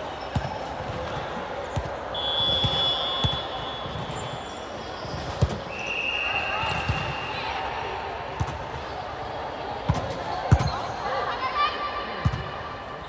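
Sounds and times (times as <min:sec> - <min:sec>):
echoing murmur of players: 0:00.0 - 0:13.0.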